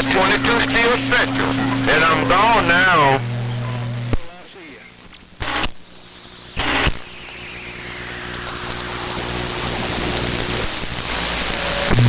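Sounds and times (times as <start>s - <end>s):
radio static burst: 0.0s - 10.8s
faint steady hum: 0.0s - 11.2s
radio static hiss: 0.0s - 12.0s.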